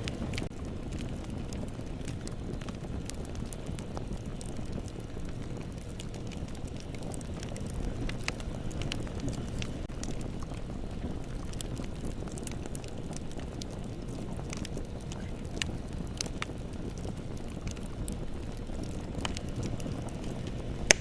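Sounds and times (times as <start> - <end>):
bonfire flames rumbling: 0.0 - 21.0
burning wood crackling and popping: 0.0 - 21.0.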